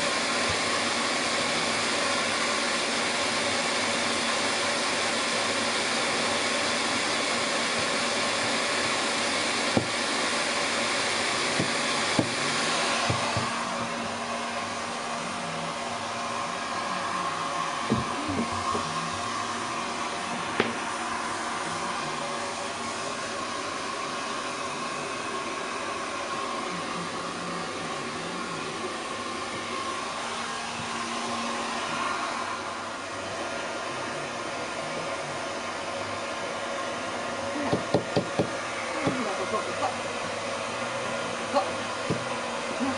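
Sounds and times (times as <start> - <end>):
hair dryer blowing: 0.0 - 42.9.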